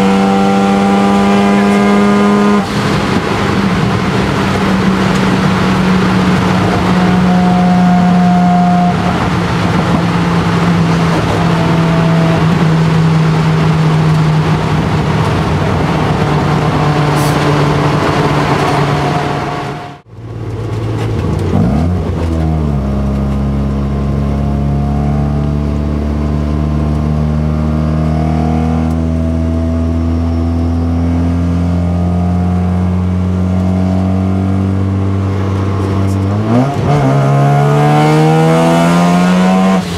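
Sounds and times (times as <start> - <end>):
car engine drone: 0.0 - 39.9
wind and road noise: 0.0 - 39.9.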